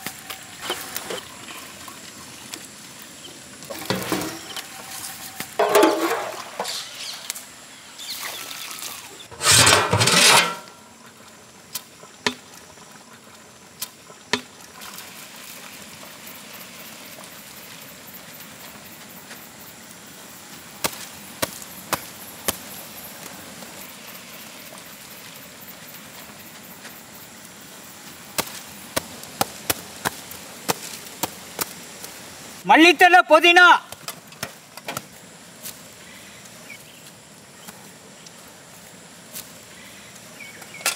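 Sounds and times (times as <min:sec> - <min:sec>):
steady low hiss: 0:00.0 - 0:40.9.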